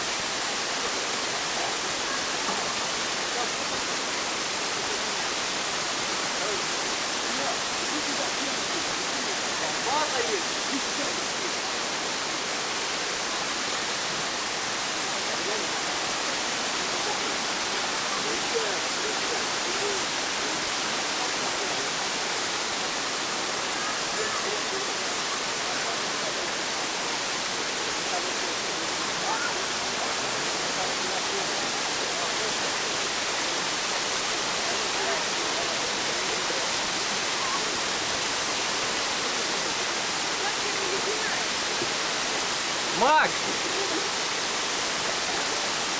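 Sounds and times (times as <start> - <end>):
waterfall splashing: 0.0 - 45.9.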